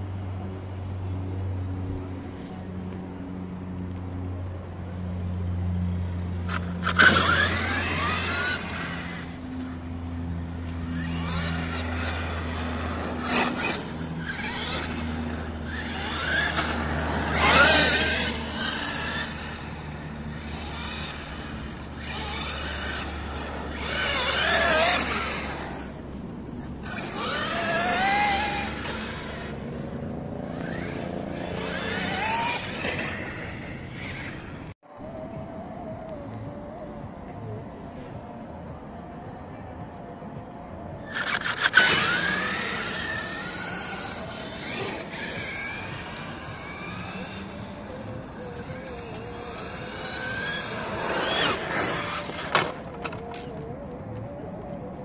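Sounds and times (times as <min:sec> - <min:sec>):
steady low hum: 0:00.0 - 0:55.0
electric motor whine: 0:00.1 - 0:34.7, 0:39.8 - 0:54.6.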